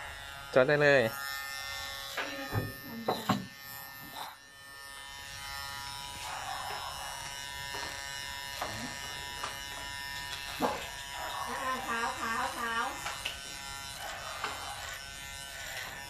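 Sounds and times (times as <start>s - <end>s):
electric hair clipper buzzing: 0.0s - 16.0s.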